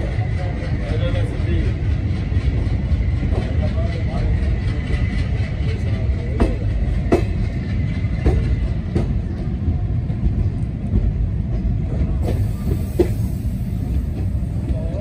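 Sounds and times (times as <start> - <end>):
train coach rumbling: 0.0 - 15.0
wheels clacking over rail joints: 0.0 - 15.0.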